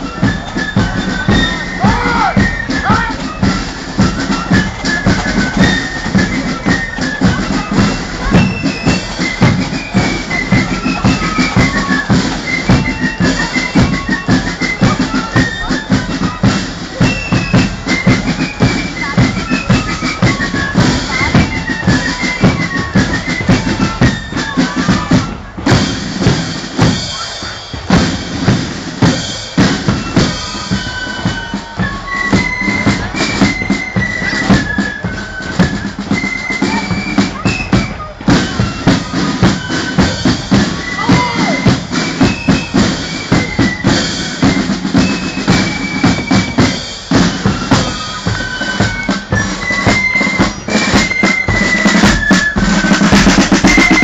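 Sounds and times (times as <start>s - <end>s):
marching band playing: 0.0s - 54.0s
snare and bass drums: 0.0s - 54.0s.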